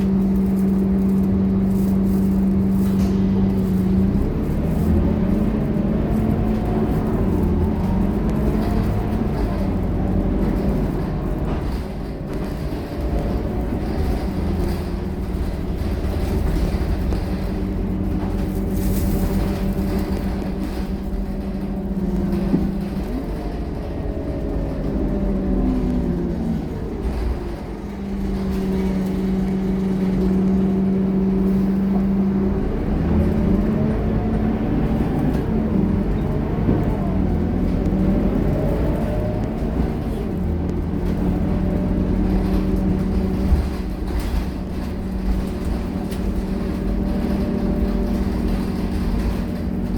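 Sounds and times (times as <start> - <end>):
bus diesel engine droning: 0.0 - 49.9
road noise: 0.0 - 49.9.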